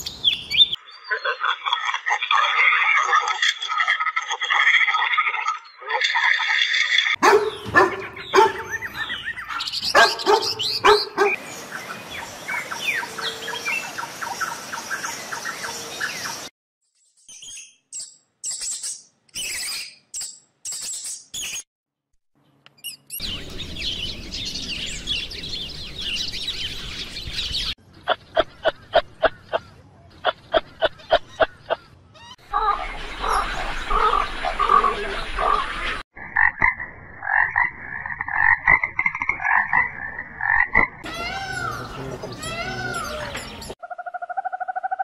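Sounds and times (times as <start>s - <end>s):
birds chirping and calling: 0.0s - 2.2s, 7.1s - 21.6s, 22.7s - 45.0s.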